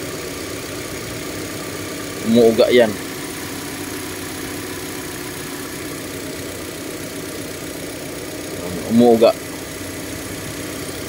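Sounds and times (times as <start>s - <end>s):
car engine idling and misfiring: 0.0s - 11.0s.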